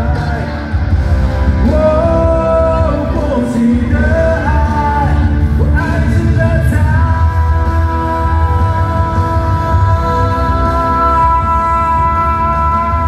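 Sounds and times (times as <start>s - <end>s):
pop-rock band playing: 0.0s - 13.0s
person singing long held notes: 1.6s - 13.0s.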